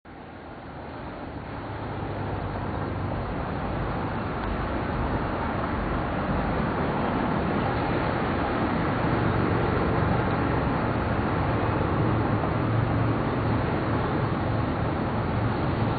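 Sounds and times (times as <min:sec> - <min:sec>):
road traffic rushing: 0:00.1 - 0:15.9.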